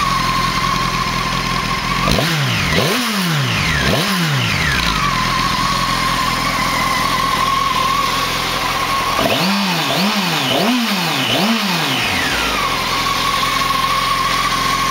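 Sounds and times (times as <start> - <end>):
motorcycle engine idling and revving: 0.0 - 14.9.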